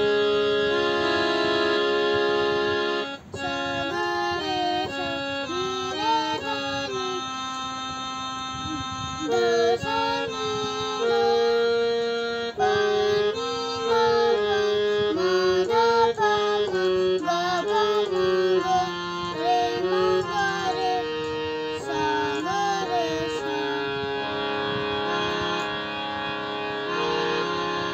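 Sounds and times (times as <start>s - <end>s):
electronic keyboard melody: 0.0s - 27.9s
child singing: 0.3s - 7.6s, 8.7s - 24.2s.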